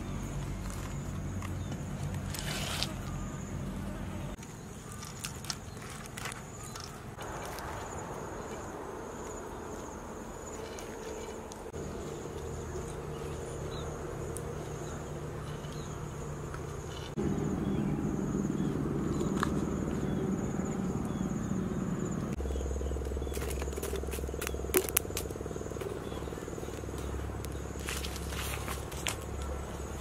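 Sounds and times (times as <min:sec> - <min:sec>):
insects trilling: 0:00.0 - 0:30.0
low background hum: 0:00.0 - 0:30.0.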